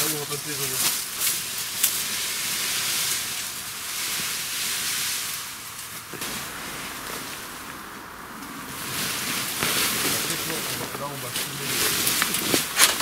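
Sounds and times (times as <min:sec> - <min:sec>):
tarp dragged across soil: 0:00.0 - 0:13.0.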